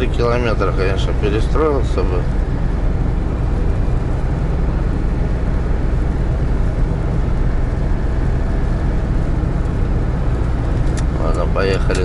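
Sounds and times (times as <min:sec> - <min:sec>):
van engine and road noise: 0:00.0 - 0:12.0.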